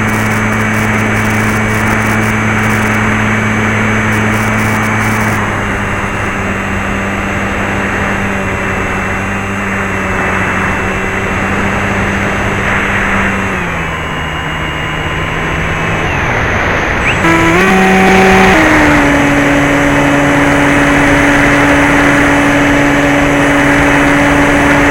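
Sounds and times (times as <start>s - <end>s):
model airplane motor humming: 0.0s - 24.9s
wind noise: 0.0s - 24.9s.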